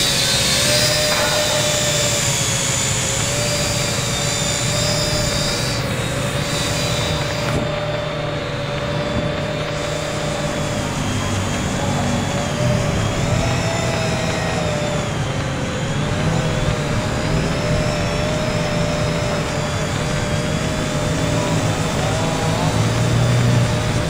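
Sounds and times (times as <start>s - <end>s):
quadcopter propellers buzzing: 0.0s - 24.0s.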